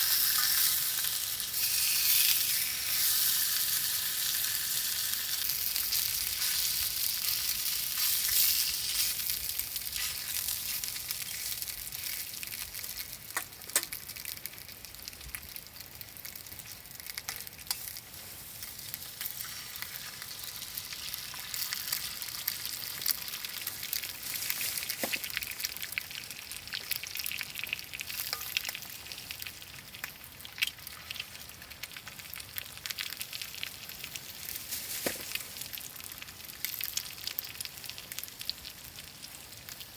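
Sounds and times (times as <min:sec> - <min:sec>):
meat sizzling in a pan: 0:00.0 - 0:39.9
sharp pops of frying fat: 0:00.0 - 0:39.9.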